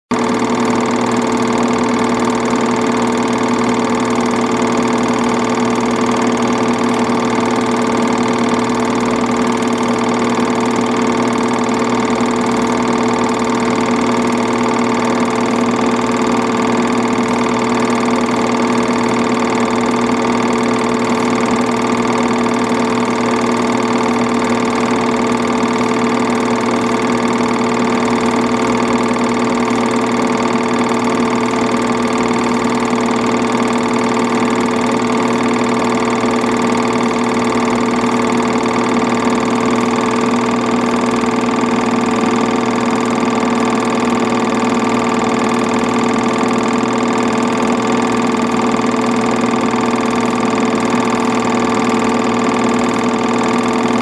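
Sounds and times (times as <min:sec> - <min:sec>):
film projector whirring: 0:00.1 - 0:54.0.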